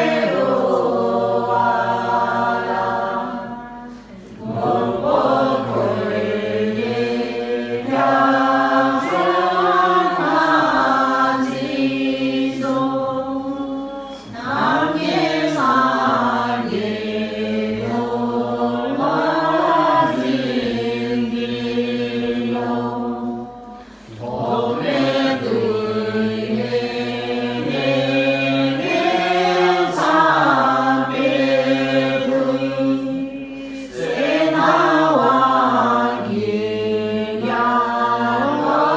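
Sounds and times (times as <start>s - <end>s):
women chanting prayers in unison: 0.0s - 38.9s.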